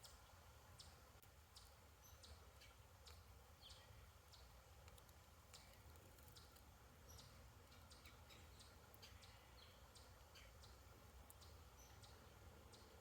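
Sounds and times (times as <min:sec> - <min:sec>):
high chirps and ticks: 0:00.8 - 0:13.0.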